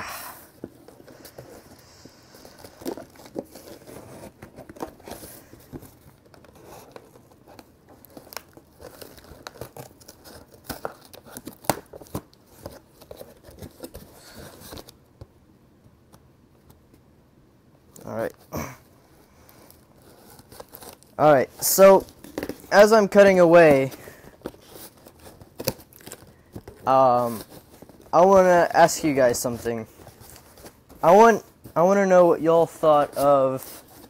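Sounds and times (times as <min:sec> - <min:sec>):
cardboard box handling rustles: 0:00.5 - 0:15.0, 0:19.7 - 0:34.0.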